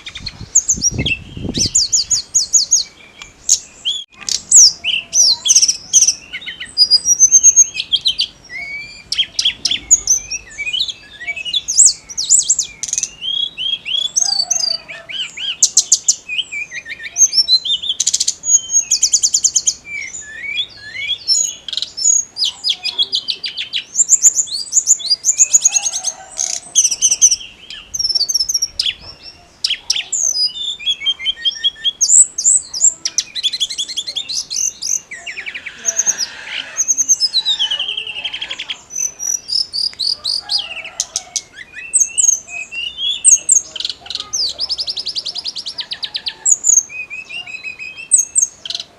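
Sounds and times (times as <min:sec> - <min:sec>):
bird singing whistles and trills: 0:00.0 - 0:48.9.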